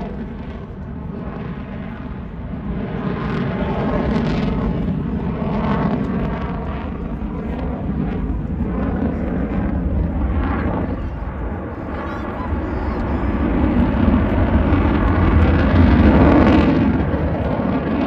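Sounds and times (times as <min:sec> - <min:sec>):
airplane flying past: 0:00.0 - 0:18.0
low rumble: 0:00.0 - 0:18.0.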